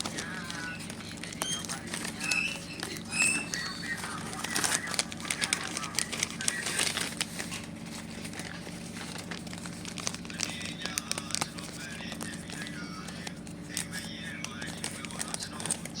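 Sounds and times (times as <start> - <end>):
paper bag crinkling: 0.0 - 16.0.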